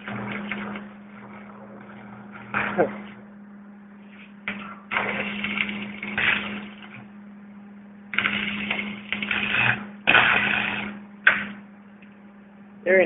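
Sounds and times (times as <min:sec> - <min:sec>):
welding arc crackling: 0:00.0 - 0:03.3, 0:04.0 - 0:07.2, 0:08.1 - 0:12.2
steady low hum: 0:00.0 - 0:13.0.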